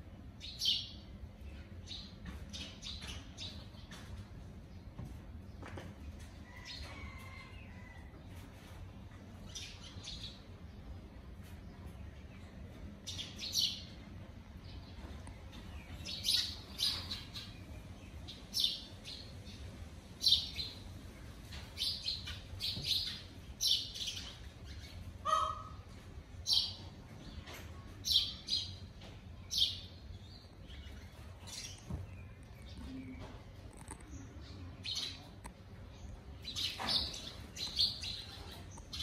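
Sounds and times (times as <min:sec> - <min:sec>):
small birds chirping: 0:00.3 - 0:05.9, 0:09.3 - 0:39.0.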